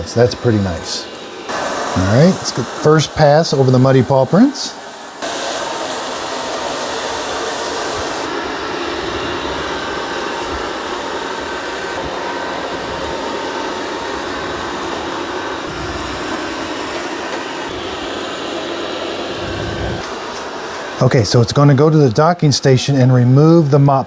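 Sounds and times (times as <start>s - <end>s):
robot vacuum motor whirring: 0.0s - 24.0s.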